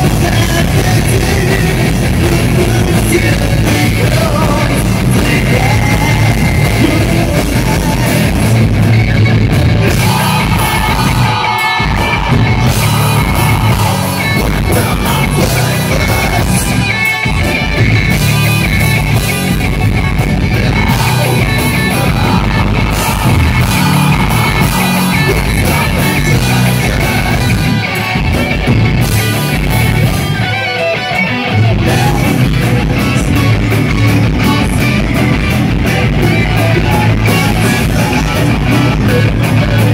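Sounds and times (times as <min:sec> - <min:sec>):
live metal band playing: 0:00.0 - 0:39.9
person singing and yelling: 0:00.0 - 0:39.9.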